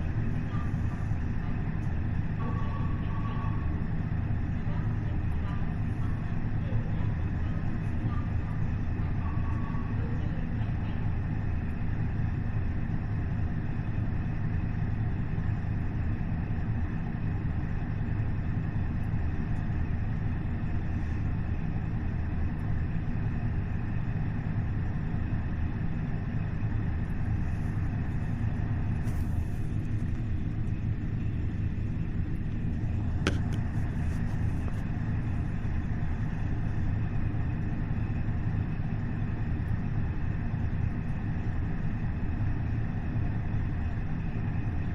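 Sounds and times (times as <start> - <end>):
diesel railcar engine running: 0.0 - 44.9.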